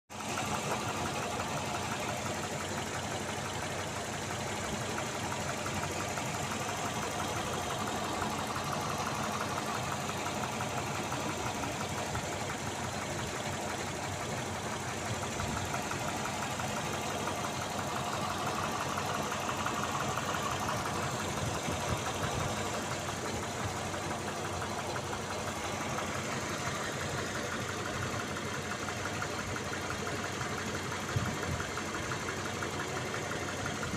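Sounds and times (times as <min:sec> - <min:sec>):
car engine idling with knocking: 0:00.1 - 0:33.9.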